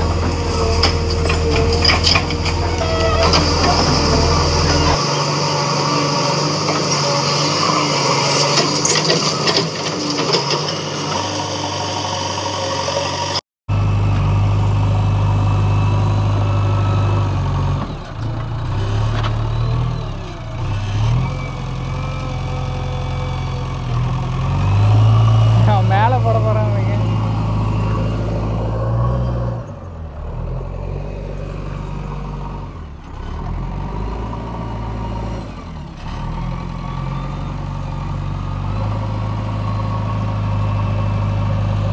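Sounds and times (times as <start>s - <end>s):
diesel engine running: 0.0s - 41.9s
loader bucket working soil: 0.0s - 41.9s.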